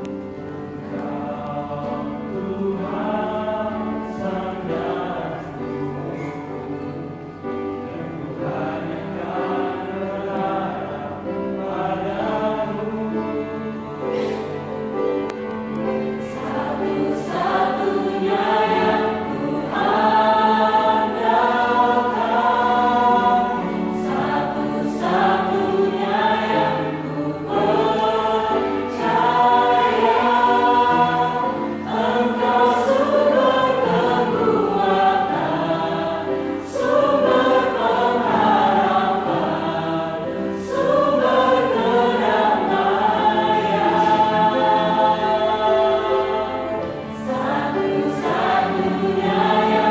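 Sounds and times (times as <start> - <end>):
church choir singing: 0.0 - 49.9.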